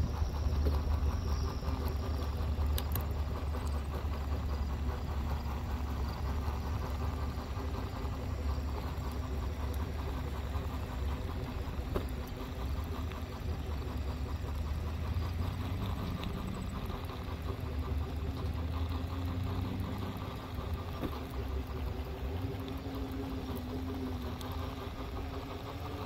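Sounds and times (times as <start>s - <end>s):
faint ticks: 0.0s - 26.0s
hoverboard rolling on concrete: 0.0s - 26.0s.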